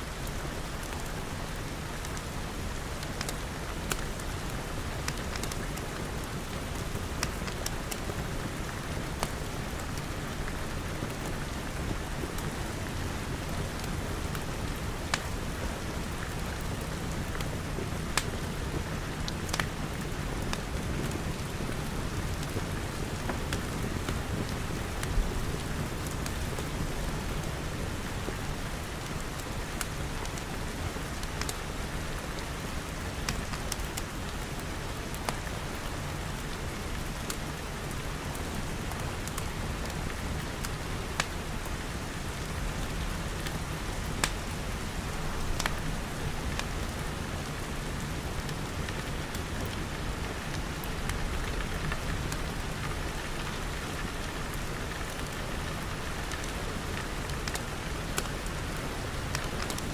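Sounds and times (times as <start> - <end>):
rain pattering on glass: 0.2 - 59.9
wood fire crackling: 0.2 - 59.9.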